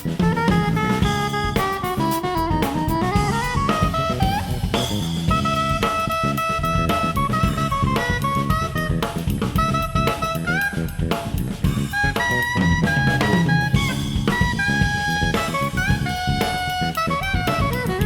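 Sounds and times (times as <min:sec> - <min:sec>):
saxophone melody: 0:00.0 - 0:09.0, 0:09.6 - 0:10.9, 0:12.0 - 0:18.0
drum kit: 0:00.0 - 0:18.0
electric bass line: 0:00.0 - 0:18.0.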